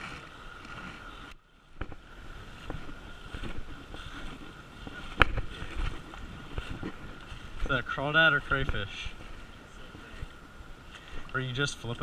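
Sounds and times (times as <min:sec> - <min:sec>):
river water sloshing and splashing: 0:00.0 - 0:12.0.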